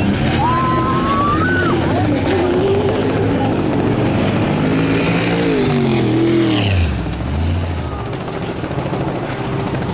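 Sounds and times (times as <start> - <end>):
race car engine at high revs: 0.0 - 9.8.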